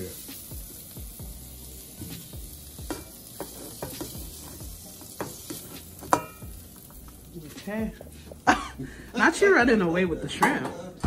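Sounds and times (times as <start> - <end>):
shrimp sizzling in skillet: 0.0 - 11.0.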